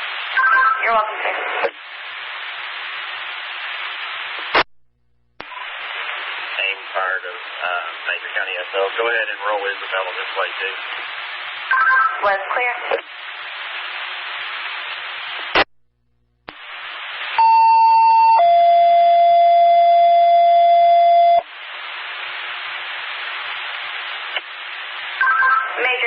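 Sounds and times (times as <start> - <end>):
radio scanner hiss: 0.0 - 4.7, 5.4 - 15.7, 16.5 - 26.0.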